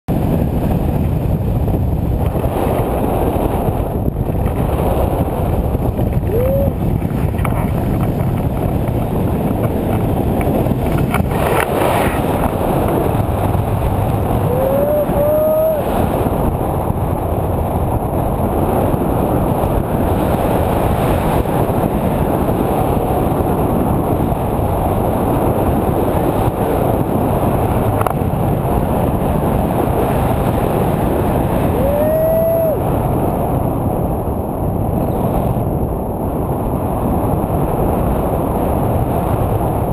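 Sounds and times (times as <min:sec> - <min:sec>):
wind buffeting microphone: 0:00.1 - 0:39.9.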